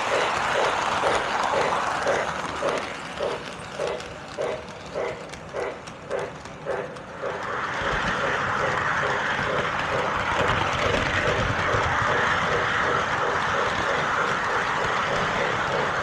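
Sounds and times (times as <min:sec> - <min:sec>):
model steam locomotive chuffing: 0:00.0 - 0:16.0
wheels rolling on track: 0:00.0 - 0:16.0.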